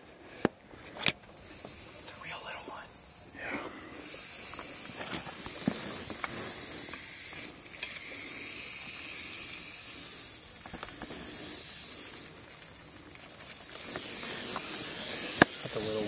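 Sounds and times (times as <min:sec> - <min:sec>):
rattlesnake rattling: 0:01.2 - 0:16.0.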